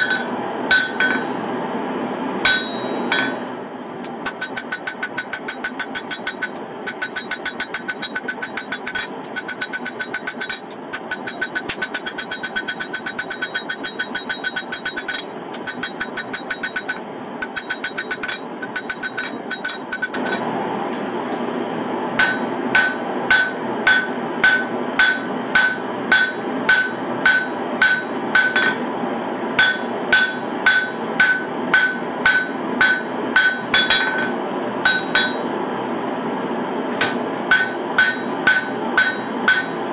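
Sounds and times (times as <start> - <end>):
hammer striking ringing anvil: 0.0 - 1.4, 2.4 - 3.5, 4.3 - 20.4, 22.2 - 28.8, 29.6 - 34.3, 34.9 - 35.5, 37.0 - 39.9.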